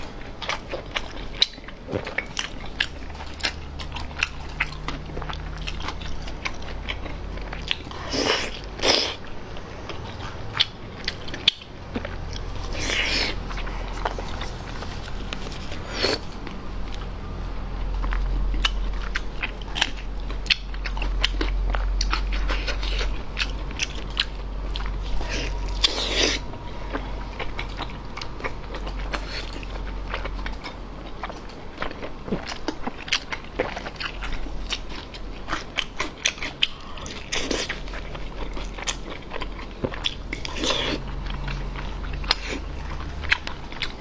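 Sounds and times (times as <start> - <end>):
chewing and lip-smacking: 0.0 - 17.1, 17.8 - 44.0.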